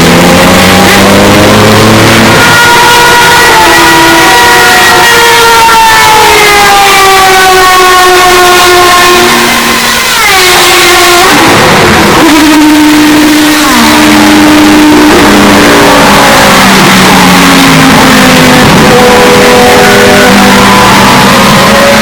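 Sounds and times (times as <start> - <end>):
race cars passing at speed: 0.0 - 22.0.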